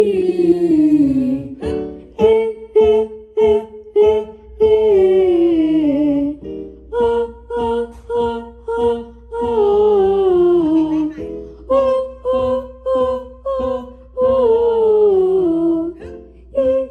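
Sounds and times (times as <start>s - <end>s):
person singing vocal exercises: 0.0s - 16.9s.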